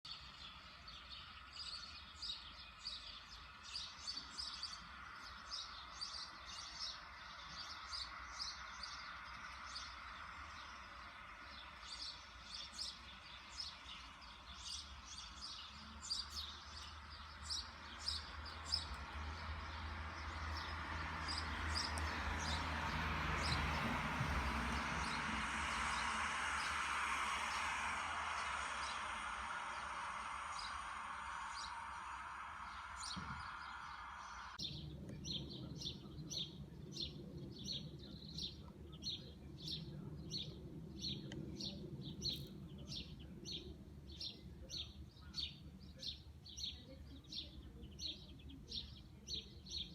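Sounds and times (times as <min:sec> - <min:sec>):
songbirds chirping: 0:00.0 - 0:49.9
road traffic hiss: 0:00.1 - 0:49.9
low background rumble: 0:03.0 - 0:48.8.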